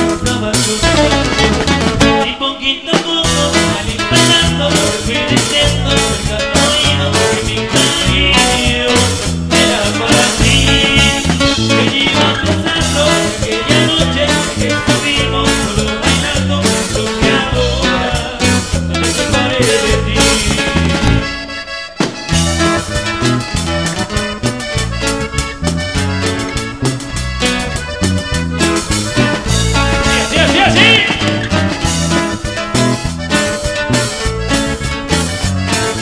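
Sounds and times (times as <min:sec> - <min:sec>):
electric bass: 0:00.0 - 0:02.5, 0:03.2 - 0:36.0
accordion: 0:00.0 - 0:36.0
drums: 0:00.0 - 0:36.0
guitar: 0:00.0 - 0:36.0
live cumbia band: 0:00.0 - 0:36.0.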